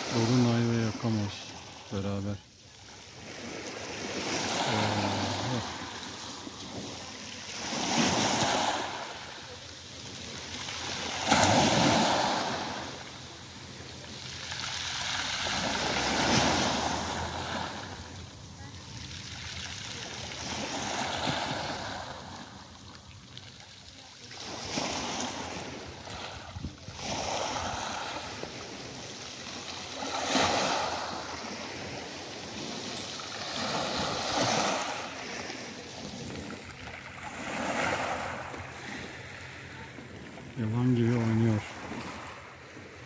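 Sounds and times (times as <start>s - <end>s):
sea waves washing onto beach: 0.0s - 43.0s.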